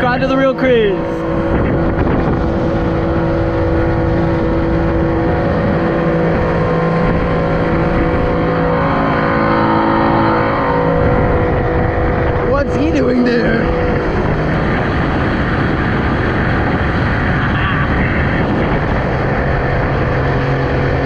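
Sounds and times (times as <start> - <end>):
motorboat engine running: 0.0 - 21.0
rushing water: 0.0 - 21.0
wind: 0.0 - 21.0.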